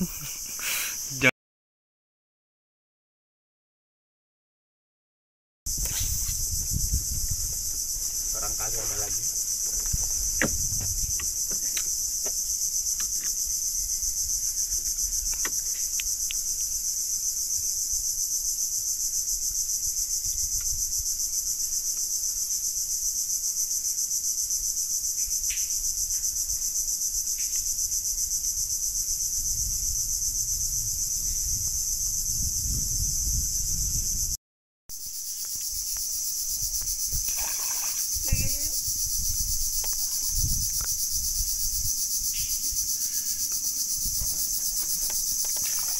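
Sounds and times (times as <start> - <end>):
insects chorus: 0.0 - 1.3, 5.7 - 45.9.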